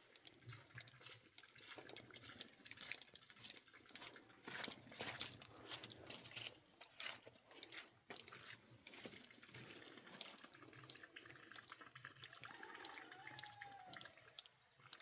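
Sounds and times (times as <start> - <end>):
faint running water: 0.0 - 15.0.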